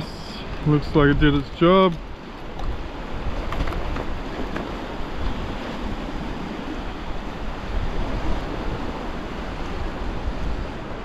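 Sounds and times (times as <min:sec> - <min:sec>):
surf washing on rocky shore: 0:00.0 - 0:11.0
wind rumbling on microphone: 0:00.0 - 0:11.0.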